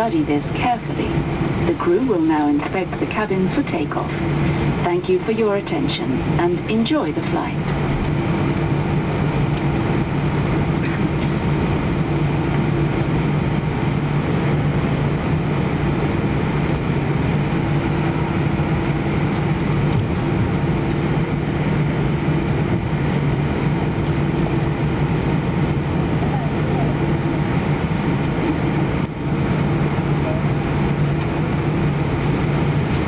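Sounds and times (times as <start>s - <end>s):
jet engine hum: 0.0s - 33.0s.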